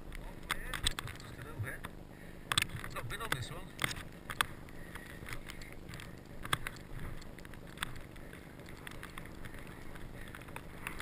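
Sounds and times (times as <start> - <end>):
sharp clicks: 0.1 - 1.9, 2.5 - 11.0.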